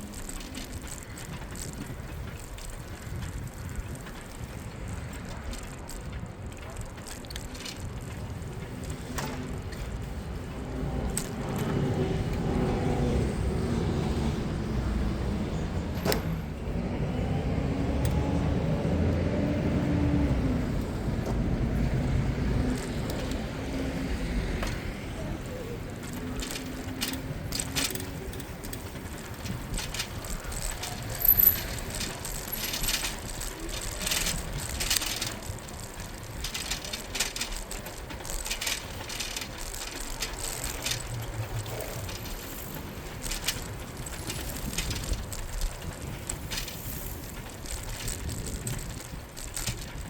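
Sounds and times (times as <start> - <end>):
bicycle clicks and rattles: 0.0 - 50.0
street traffic: 0.0 - 50.0.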